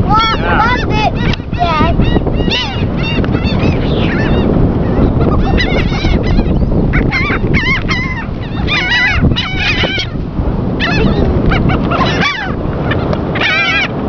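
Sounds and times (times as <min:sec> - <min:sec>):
gulls calling: 0:00.0 - 0:14.0.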